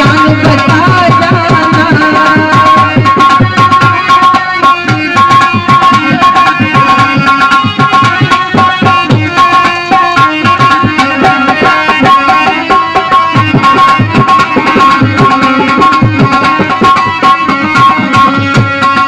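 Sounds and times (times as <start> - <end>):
fast hand-drum rhythm: 0.0 - 19.0
keyboard-like melody: 0.0 - 19.0.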